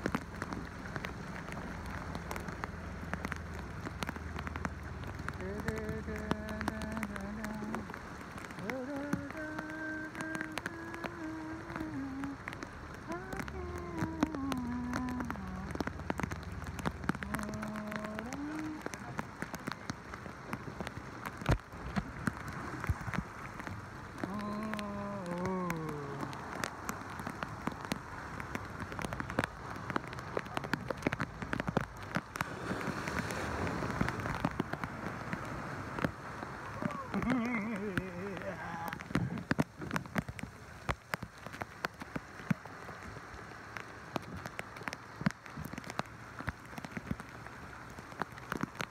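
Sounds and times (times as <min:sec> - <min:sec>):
heavy rain hissing: 0:00.0 - 0:48.9
rain drops ticking on boat: 0:00.0 - 0:48.9.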